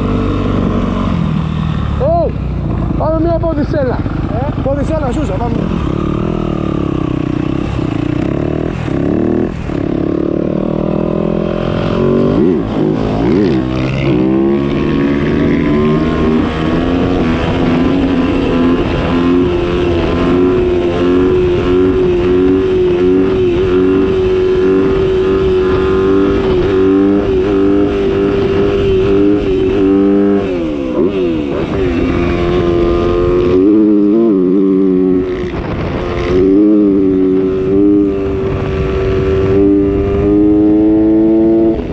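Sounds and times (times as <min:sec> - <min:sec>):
motocross bike engine revving: 0:02.7 - 0:41.9.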